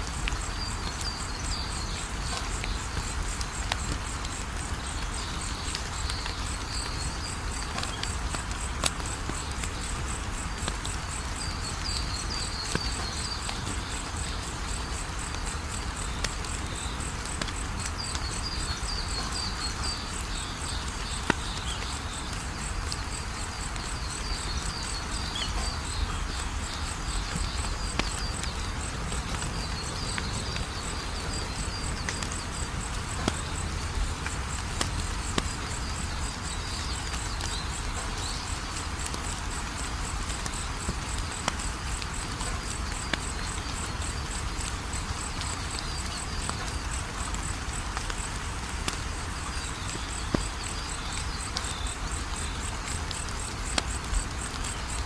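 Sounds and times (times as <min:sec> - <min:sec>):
fire crackling: 0:00.0 - 0:55.0
insects chirping: 0:00.0 - 0:55.0.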